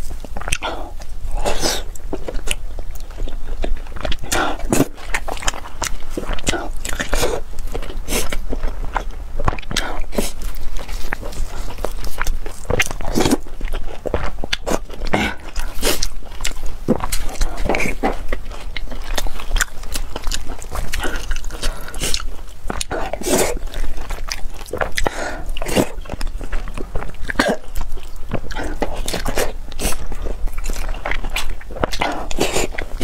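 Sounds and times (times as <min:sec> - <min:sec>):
chewing and wet mouth sounds: 0:00.0 - 0:33.0.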